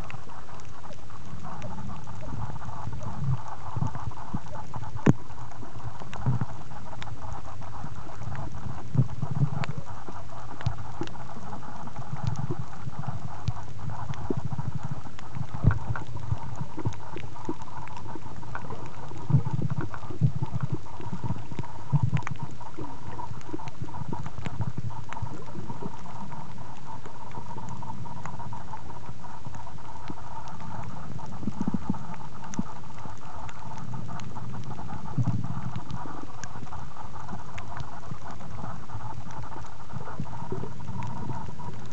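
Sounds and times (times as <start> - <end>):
faint steady hum: 0.0 - 41.9
underwater knocks and rumbles: 0.0 - 41.9.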